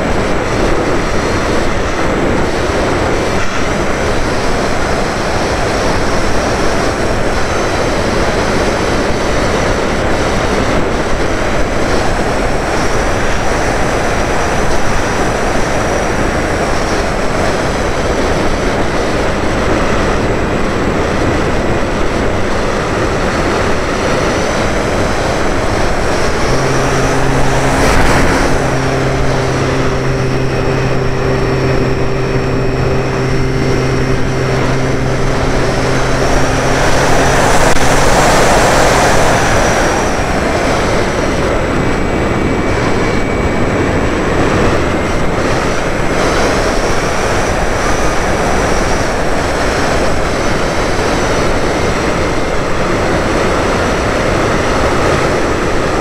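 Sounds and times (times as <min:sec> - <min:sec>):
electric motor and propeller whine: 0:00.0 - 0:56.0
low hum with overtones: 0:00.0 - 0:56.0
rushing wind noise: 0:00.0 - 0:56.0.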